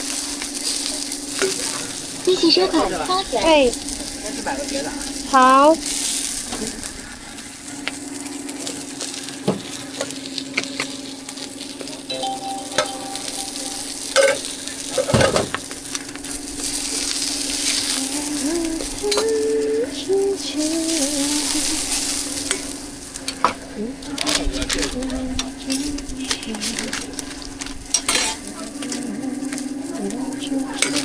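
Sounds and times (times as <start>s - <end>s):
food sizzling in a pan: 0.0s - 31.0s.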